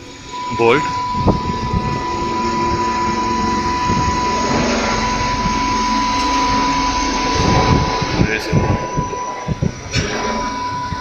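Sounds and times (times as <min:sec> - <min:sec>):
high-pitched machinery whine: 0:00.0 - 0:11.0
low machinery rumble: 0:00.0 - 0:11.0.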